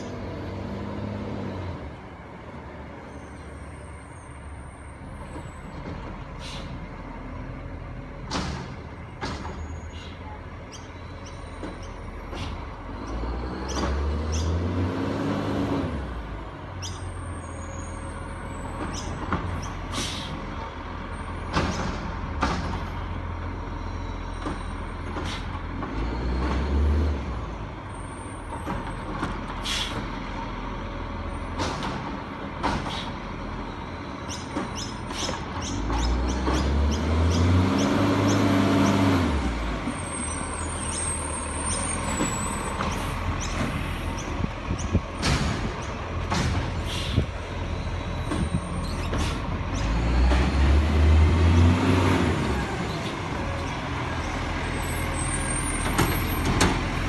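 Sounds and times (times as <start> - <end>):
garbage truck engine revving: 0.0 - 2.1, 11.6 - 20.2, 20.8 - 57.0.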